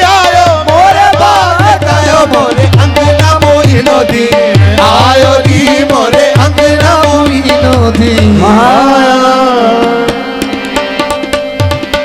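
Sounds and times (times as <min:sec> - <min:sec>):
person singing: 0:00.0 - 0:10.4
harmonium chords: 0:00.0 - 0:12.0
tabla: 0:00.0 - 0:12.0.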